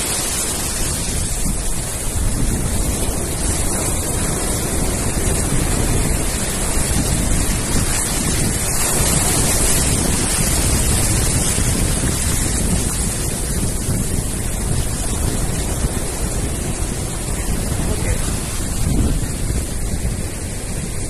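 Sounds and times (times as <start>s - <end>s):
sea surf: 0.0s - 21.0s
wind buffeting microphone: 0.0s - 21.0s.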